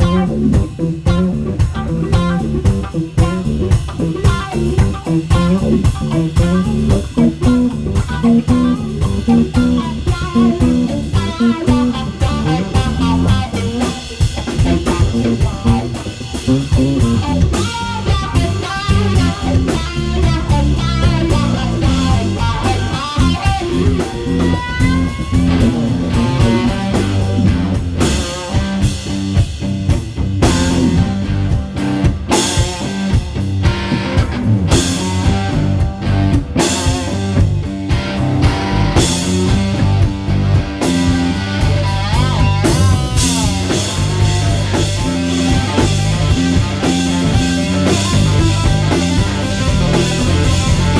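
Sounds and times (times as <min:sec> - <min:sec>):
bass guitar: 0:00.0 - 0:50.9
drum kit: 0:00.0 - 0:50.9
electric guitar lead lines: 0:00.0 - 0:50.9.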